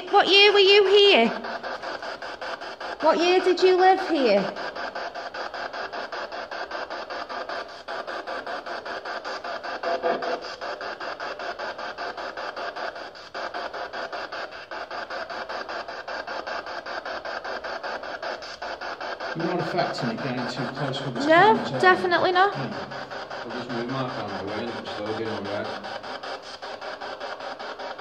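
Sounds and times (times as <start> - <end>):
pulsing radio static: 0.0 - 28.0.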